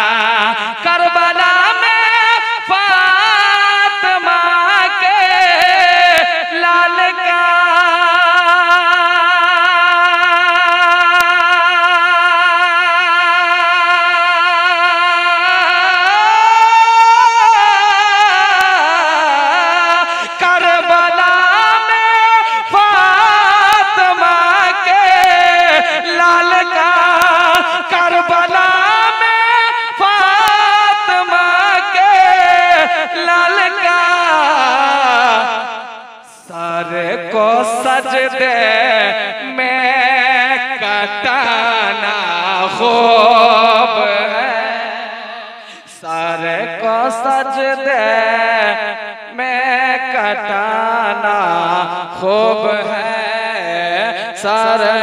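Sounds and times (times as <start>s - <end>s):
man singing devotional song: 0.0s - 55.0s.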